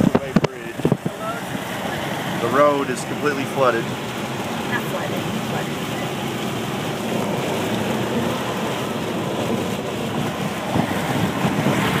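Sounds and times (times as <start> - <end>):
heavy rain on a car: 0.0 - 12.0
tyres on a flooded road: 0.0 - 12.0.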